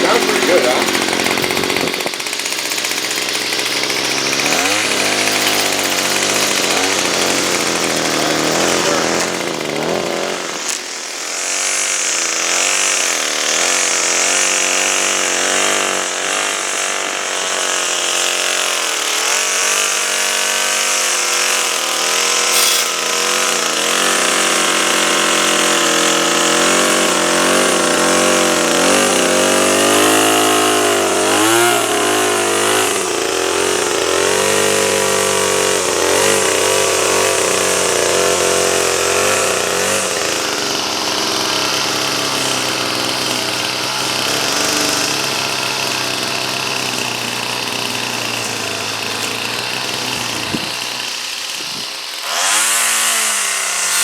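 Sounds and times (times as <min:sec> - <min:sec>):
string trimmer engine revving: 0:00.0 - 0:54.0.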